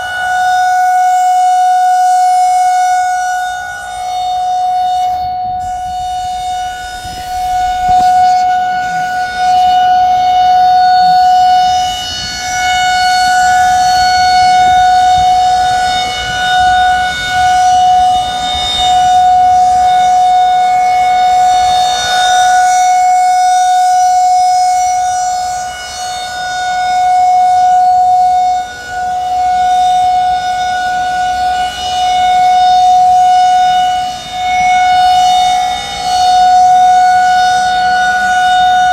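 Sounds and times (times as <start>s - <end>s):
rotating warning siren steady tone: 0.0s - 38.9s.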